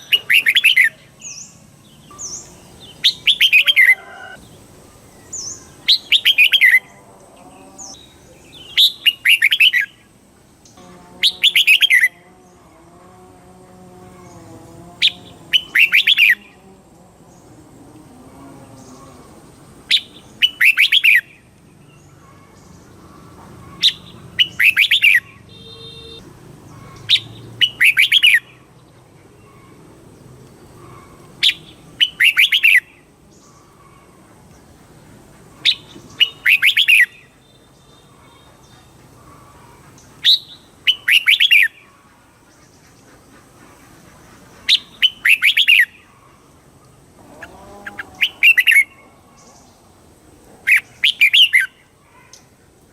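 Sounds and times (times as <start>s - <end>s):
bird singing warbling phrases: 0.0s - 12.8s, 14.0s - 29.9s, 30.8s - 34.8s, 35.5s - 43.1s, 44.6s - 46.4s, 47.3s - 49.9s, 50.6s - 52.9s.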